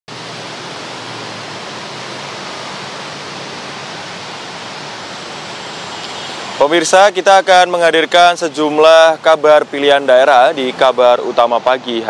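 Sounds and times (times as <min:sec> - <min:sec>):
steady outdoor background hiss: 0:00.1 - 0:12.0.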